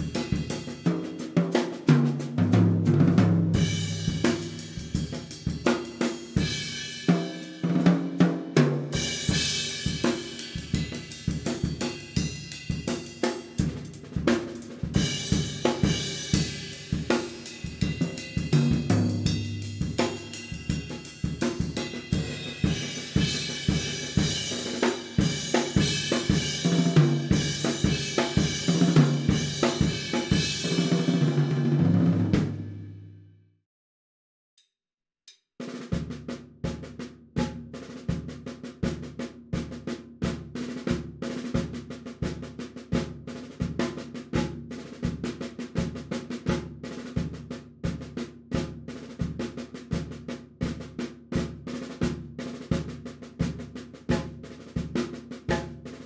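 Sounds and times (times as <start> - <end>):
drum kit playing a groove: 0.0 - 32.7, 35.6 - 56.0.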